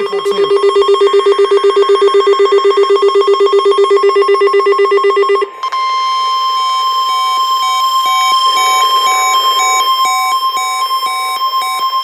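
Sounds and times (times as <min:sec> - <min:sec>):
steady warning alarm tone: 0:00.0 - 0:12.0
warbling electronic beep: 0:00.0 - 0:12.0.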